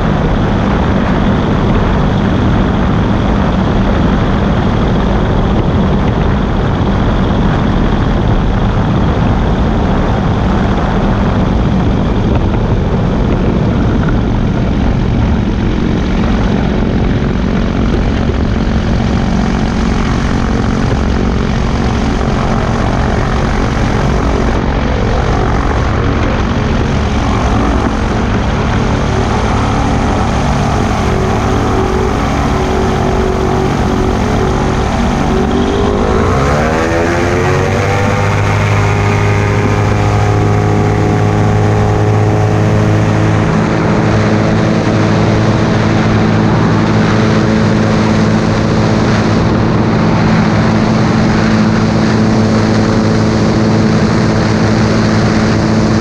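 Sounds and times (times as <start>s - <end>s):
engine and propeller running: 0.0s - 56.0s
wind rush: 0.0s - 56.0s.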